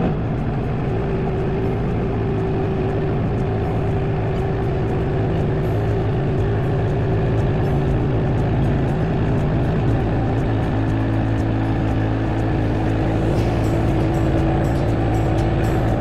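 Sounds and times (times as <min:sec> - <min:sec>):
engine loud drone: 0:00.0 - 0:16.0.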